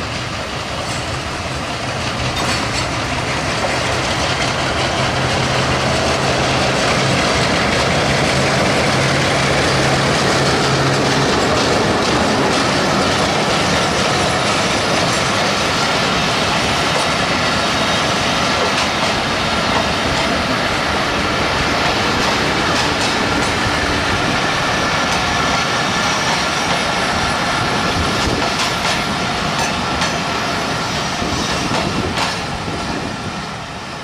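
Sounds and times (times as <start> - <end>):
wheels clicking on rail joints: 0.0 - 33.5
steel wheels rumbling on rail: 0.0 - 34.0.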